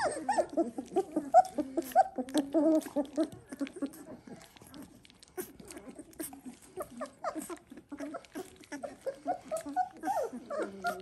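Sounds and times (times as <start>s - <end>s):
puppies squeaking and whimpering: 0.0s - 11.0s
puppy licking: 0.0s - 11.0s
puppy whining: 0.0s - 11.0s.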